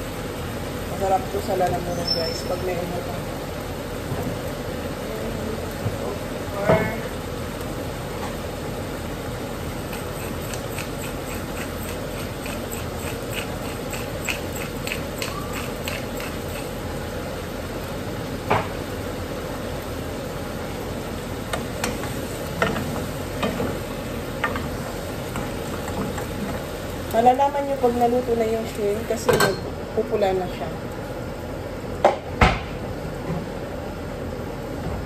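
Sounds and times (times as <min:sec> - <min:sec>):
shrimp sizzling in a pot: 0:00.0 - 0:32.3.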